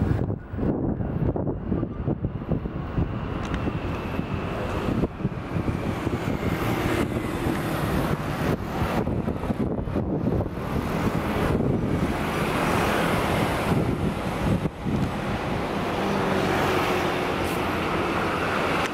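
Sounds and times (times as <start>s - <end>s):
street traffic: 0.0s - 18.9s
wind buffeting microphone: 0.0s - 18.9s.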